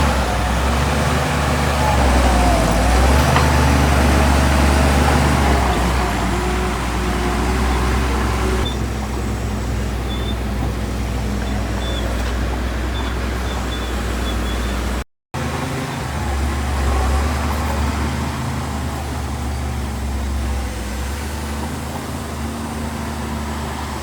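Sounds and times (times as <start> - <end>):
heavy machinery diesel rumble: 0.0 - 24.0.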